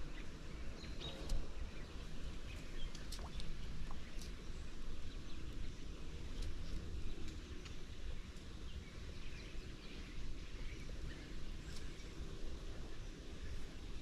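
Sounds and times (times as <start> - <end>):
creek low rumble: 0.0 - 14.0.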